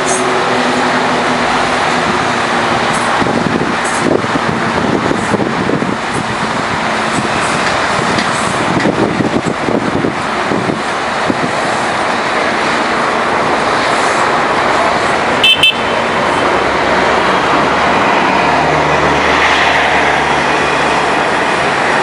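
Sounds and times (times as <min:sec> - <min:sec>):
train rushing on rails: 0:00.0 - 0:22.0.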